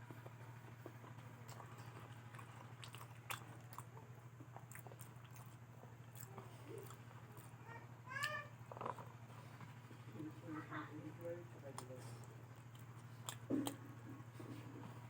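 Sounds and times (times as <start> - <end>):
soft chewing and crunches: 0.0 - 15.0
steady low hum: 0.0 - 15.0.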